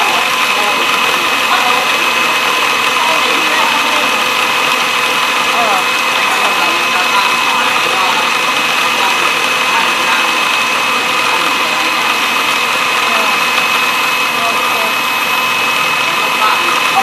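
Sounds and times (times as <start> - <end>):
electric mixer whining: 0.0 - 17.0.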